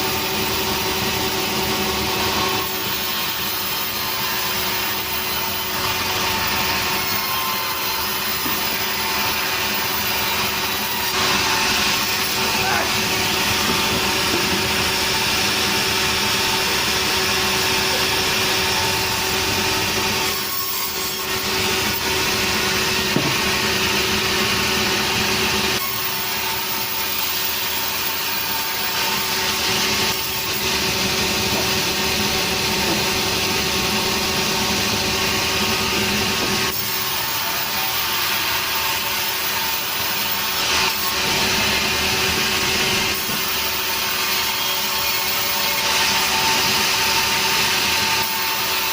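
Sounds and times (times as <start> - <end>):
sawmill saw cutting wood: 0.0 - 48.9.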